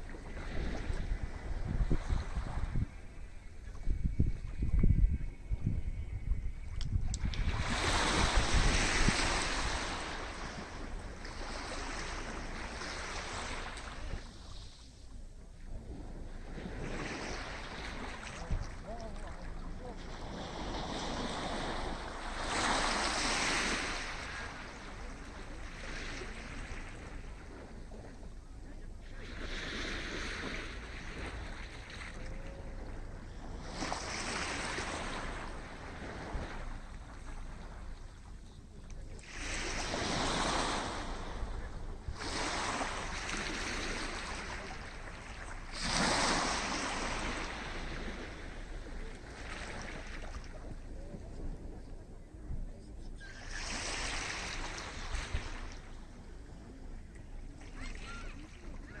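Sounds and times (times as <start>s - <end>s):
sea waves breaking on beach: 7.2s - 15.0s, 15.8s - 51.9s, 53.2s - 59.0s.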